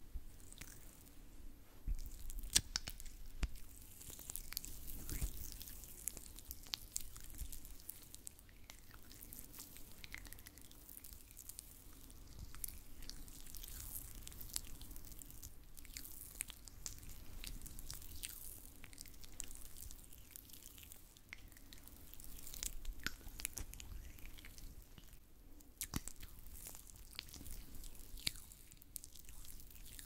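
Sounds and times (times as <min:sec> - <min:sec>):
small crackles and clicks: 0:01.9 - 0:30.0.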